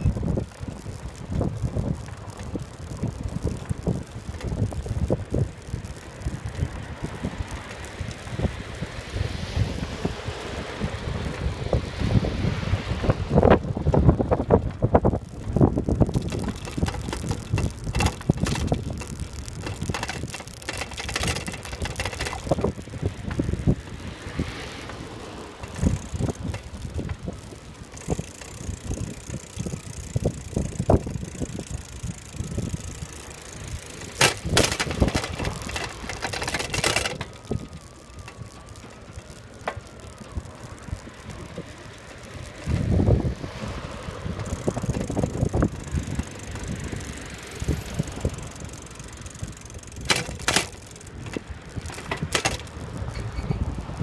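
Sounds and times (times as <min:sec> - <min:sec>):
bicycle tyre rumble on asphalt: 0:00.0 - 0:54.0
bike rattling clicks and knocks: 0:00.0 - 0:54.0
wind on microphone: 0:00.0 - 0:54.0.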